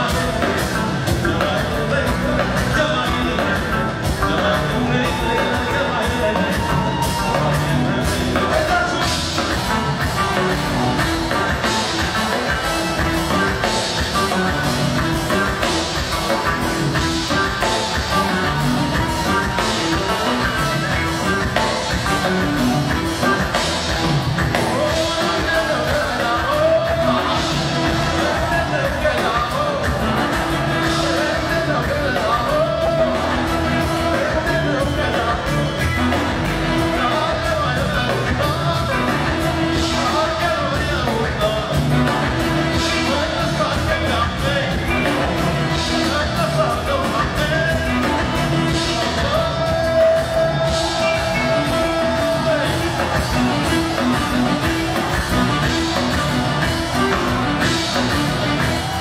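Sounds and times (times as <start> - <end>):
live band playing popular music: 0.0 - 59.0
man singing lead vocal: 0.0 - 59.0.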